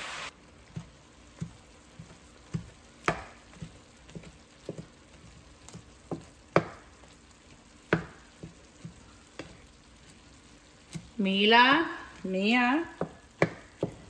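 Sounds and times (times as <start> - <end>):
faint sizzle: 0.0 - 14.0
wooden spatula scraping a pan: 0.5 - 12.2.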